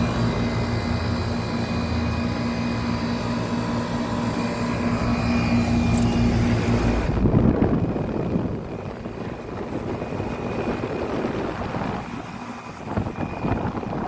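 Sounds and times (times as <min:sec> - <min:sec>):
compressor humming: 0:00.0 - 0:14.0
condenser fan rushing: 0:00.0 - 0:14.0.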